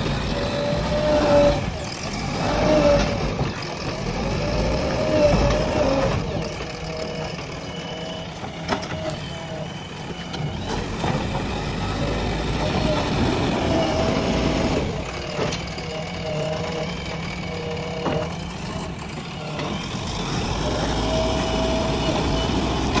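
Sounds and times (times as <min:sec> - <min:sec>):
backhoe diesel engine whining: 0:00.0 - 0:23.0.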